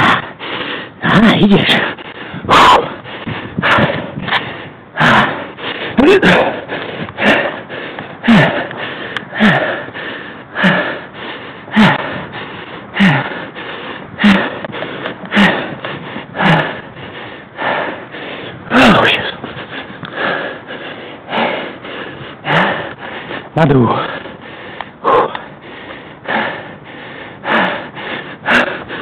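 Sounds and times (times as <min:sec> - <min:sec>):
man panting with grunts: 0:00.0 - 0:29.0.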